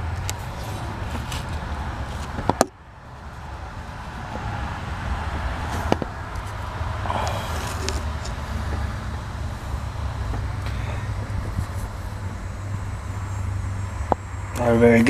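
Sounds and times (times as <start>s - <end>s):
low rumble: 0.0s - 14.6s.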